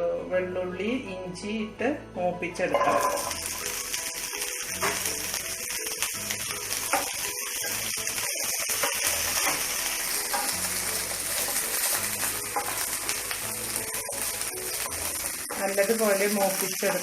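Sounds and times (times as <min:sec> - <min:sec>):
background music: 0:00.0 - 0:17.0
food sizzling in oil: 0:02.6 - 0:17.0.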